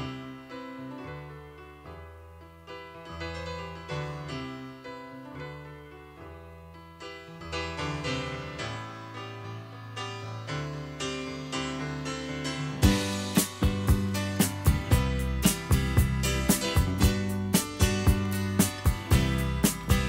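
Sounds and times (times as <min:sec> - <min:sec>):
piano playing chords: 0:00.0 - 0:20.0.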